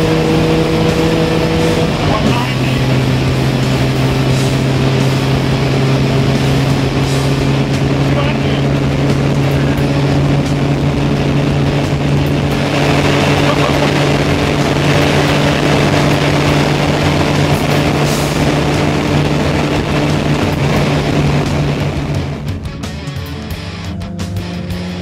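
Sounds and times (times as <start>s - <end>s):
car engine drone: 0.0s - 25.0s
wind and road noise: 0.0s - 25.0s.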